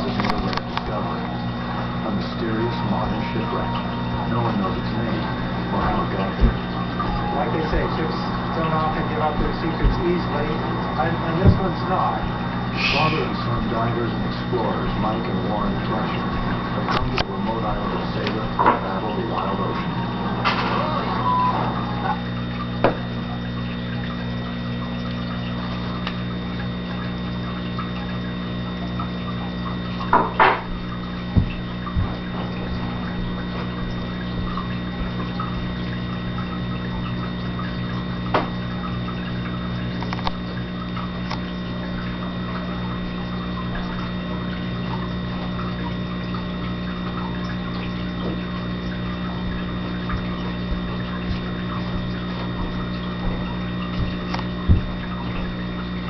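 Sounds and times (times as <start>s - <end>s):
constant hiss: 0.0s - 56.0s
low electrical hum: 0.0s - 56.0s.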